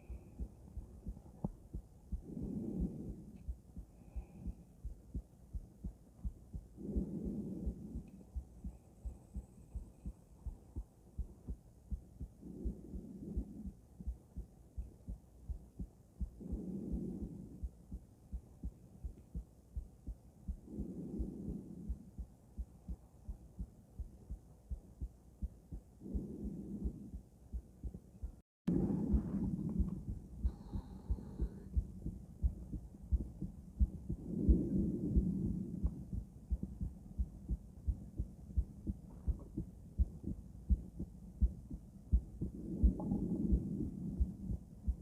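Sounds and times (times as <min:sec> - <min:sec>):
heartbeat through stethoscope: 0:00.0 - 0:45.0.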